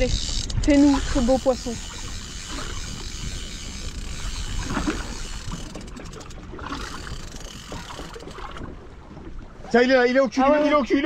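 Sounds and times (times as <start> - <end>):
water washing against boat hull: 0.0 - 11.0
wind buffeting microphone: 0.0 - 11.0.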